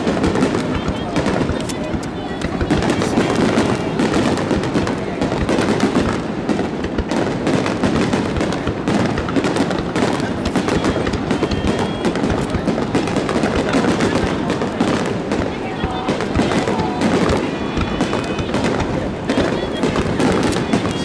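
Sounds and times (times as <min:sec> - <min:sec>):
firework crackling: 0:00.0 - 0:21.0
firework shells bursting: 0:00.0 - 0:21.0.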